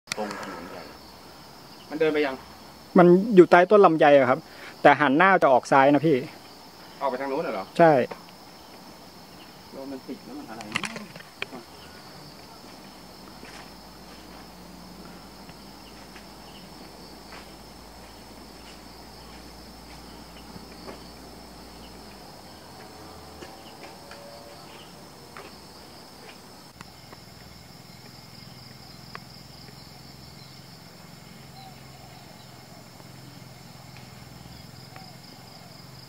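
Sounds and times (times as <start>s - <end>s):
crickets and insects droning: 0.1s - 36.0s.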